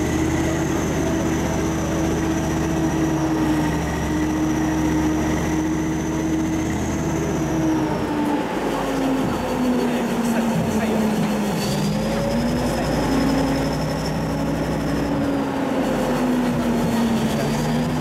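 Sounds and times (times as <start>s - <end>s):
high whine: 0.0s - 18.0s
tank engine rumble: 0.0s - 18.0s.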